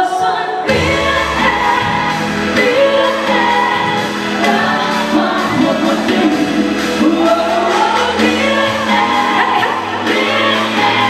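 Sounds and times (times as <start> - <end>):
live pop band playing: 0.0 - 11.0
woman singing into microphone: 0.0 - 11.0.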